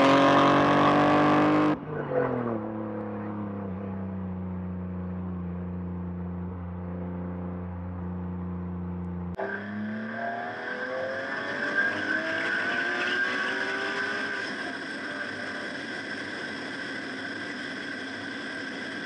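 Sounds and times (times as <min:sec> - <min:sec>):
car engine accelerating: 0:00.0 - 0:19.0
car engine cruising: 0:00.0 - 0:19.0.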